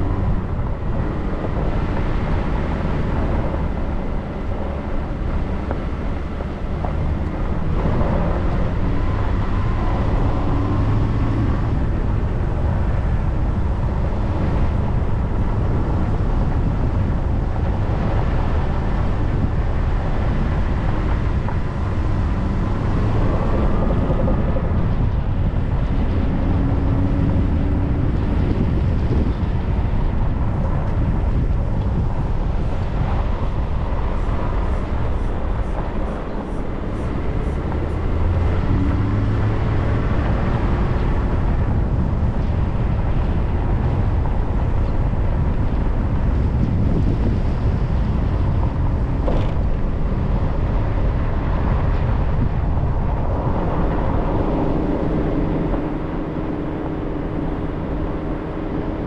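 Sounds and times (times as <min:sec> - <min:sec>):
car engine: 0:00.0 - 0:59.0
tyres rumbling on dirt road: 0:00.0 - 0:59.0.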